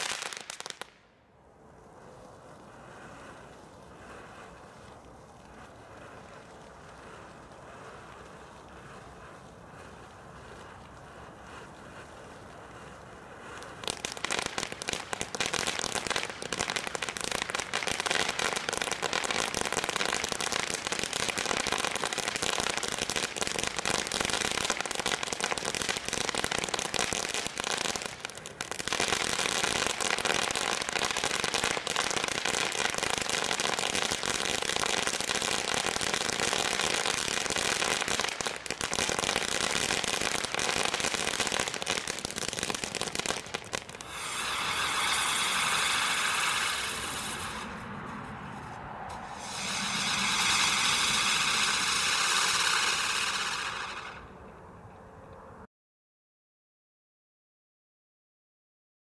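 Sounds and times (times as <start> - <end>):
firework fountain hiss: 0.0 - 1.0, 1.6 - 54.5
firework fountain crackling: 0.0 - 54.6.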